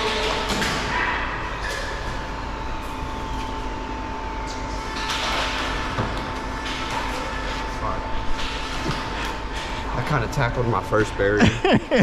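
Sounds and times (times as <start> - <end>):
warehouse hum and hiss: 0.0 - 12.0.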